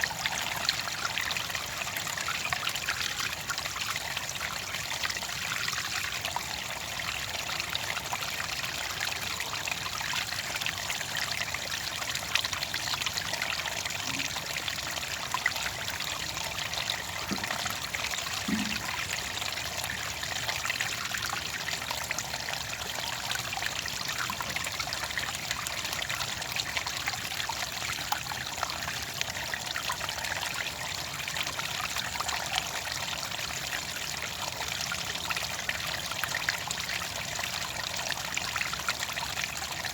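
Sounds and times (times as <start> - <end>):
stream trickling and bubbling: 0.0 - 39.9.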